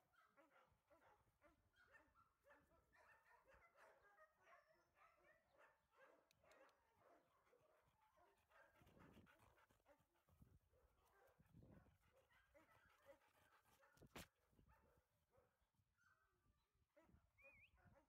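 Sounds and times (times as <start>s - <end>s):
faint dog barks and whines: 0.0s - 18.0s.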